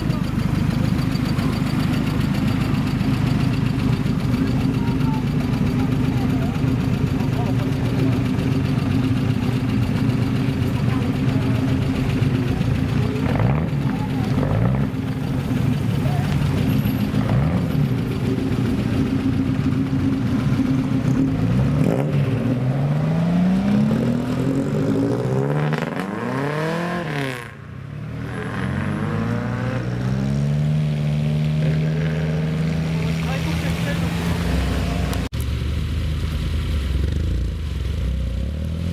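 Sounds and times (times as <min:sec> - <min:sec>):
car engines idling and revving: 0:00.0 - 0:38.9.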